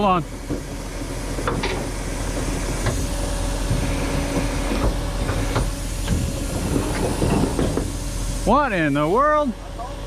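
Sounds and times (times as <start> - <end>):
heavy truck engine idling: 0.0 - 10.0.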